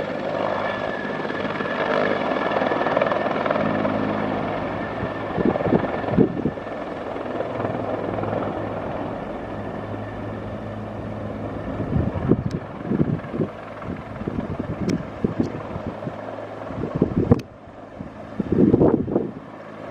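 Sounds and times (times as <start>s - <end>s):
helicopter rotor and engine hum: 0.0s - 19.9s
wind buffeting microphone: 2.4s - 19.6s.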